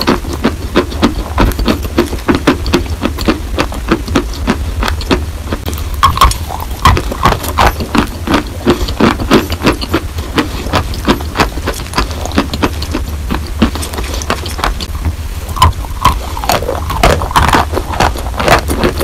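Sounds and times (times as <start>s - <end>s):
person chewing crunchy chalk: 0.0s - 19.0s
steady low hum: 0.0s - 19.0s.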